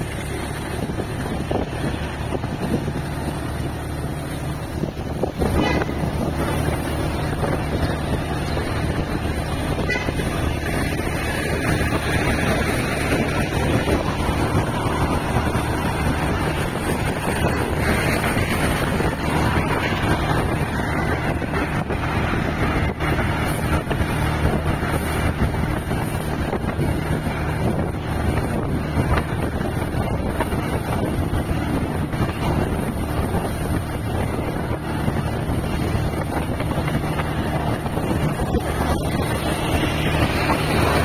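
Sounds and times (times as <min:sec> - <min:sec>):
vehicle engine running steadily: 0:00.0 - 0:41.0
wind noise on microphone: 0:00.0 - 0:41.0.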